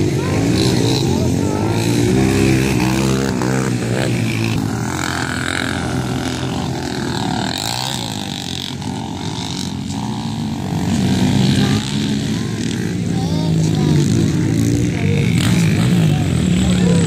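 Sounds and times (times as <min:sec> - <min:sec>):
off-road racing engines revving: 0:00.0 - 0:17.0.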